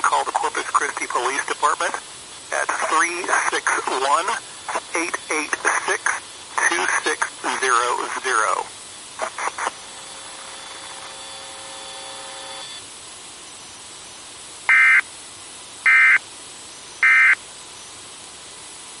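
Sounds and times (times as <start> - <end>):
harsh buzzing data tones: 0.0 - 12.9, 13.5 - 15.1, 15.8 - 17.9
background hiss: 0.0 - 19.0.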